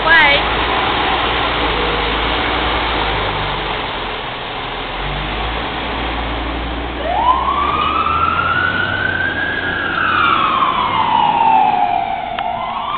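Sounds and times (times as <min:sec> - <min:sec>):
truck engine: 0:00.0 - 0:12.9
fire truck siren wailing: 0:00.1 - 0:12.9.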